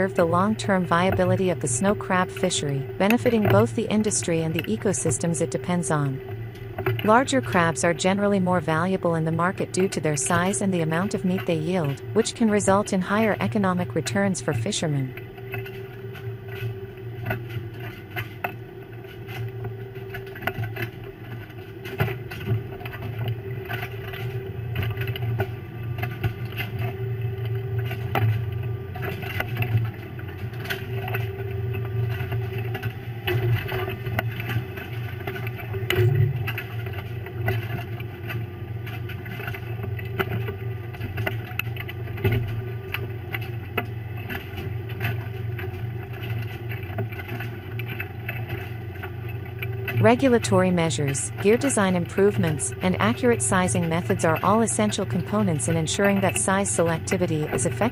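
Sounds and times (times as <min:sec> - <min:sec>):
boat engine humming: 0:00.0 - 0:57.9.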